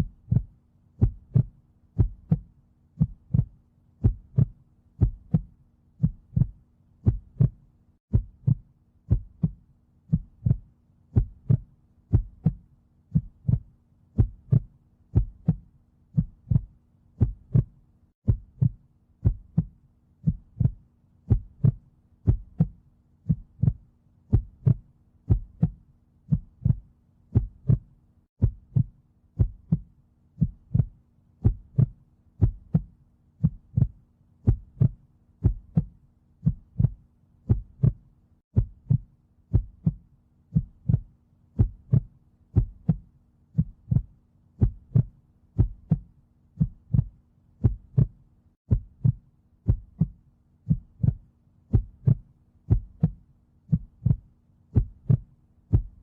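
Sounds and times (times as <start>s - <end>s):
heartbeat double thump: 0.1s - 15.6s, 16.2s - 40.0s, 40.6s - 43.0s, 43.6s - 54.2s, 54.8s - 56.0s.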